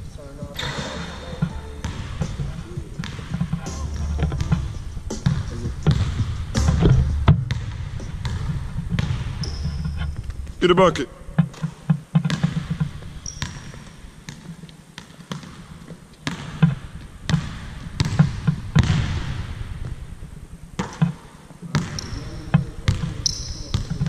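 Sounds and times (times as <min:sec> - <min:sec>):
basketball bouncing on hardwood: 0:01.4 - 0:03.6, 0:04.2 - 0:10.2, 0:11.4 - 0:20.0, 0:20.8 - 0:24.0.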